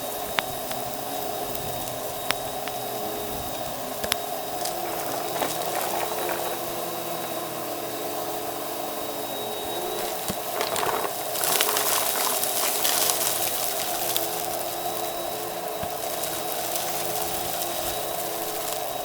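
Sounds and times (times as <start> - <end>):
vacuum cleaner running: 0.0 - 19.0
debris crackling in vacuum: 0.3 - 19.0.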